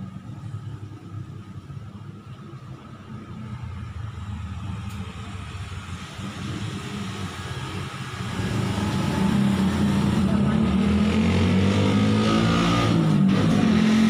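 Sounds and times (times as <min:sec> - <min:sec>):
motor vehicle approaching: 0:00.0 - 0:14.0
road traffic rumble: 0:00.0 - 0:14.0.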